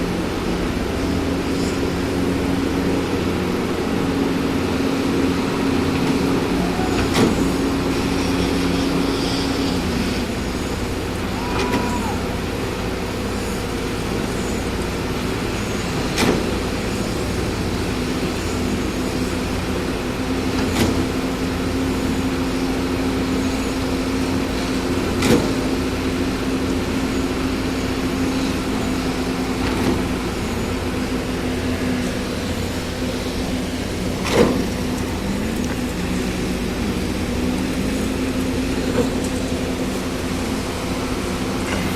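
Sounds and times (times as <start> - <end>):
concrete pump engine running: 0.0 - 41.9.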